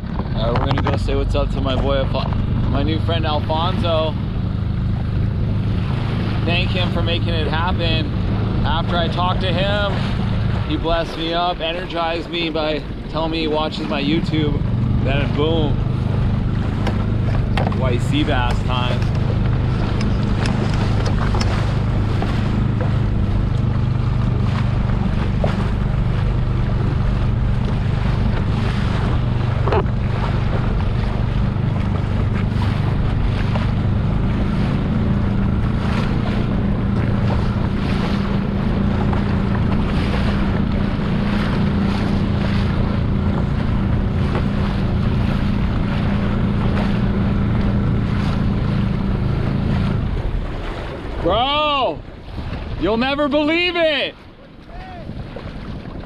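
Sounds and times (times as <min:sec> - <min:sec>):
wind buffeting microphone: 0:00.0 - 0:53.2
outboard motor running: 0:00.0 - 0:56.0
water splashing along hull: 0:00.0 - 0:56.0.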